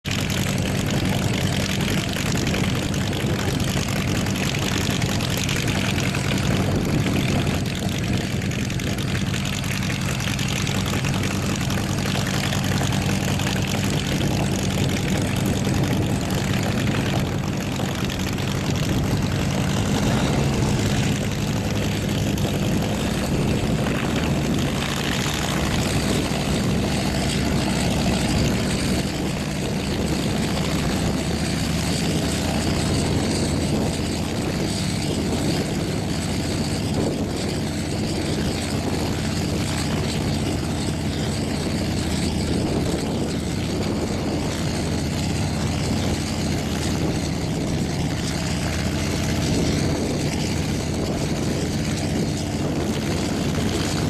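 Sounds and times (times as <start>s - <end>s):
radial aircraft engine running: 0.0s - 54.0s.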